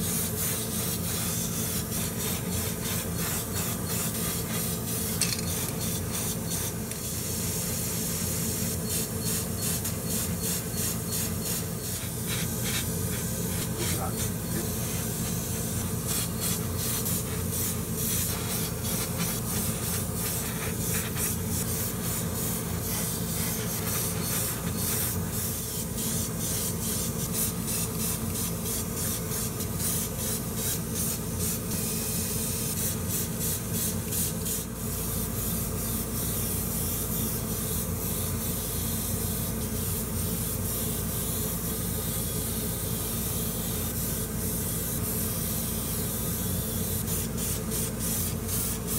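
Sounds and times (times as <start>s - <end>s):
airbrush spraying paint: 0.0s - 48.9s.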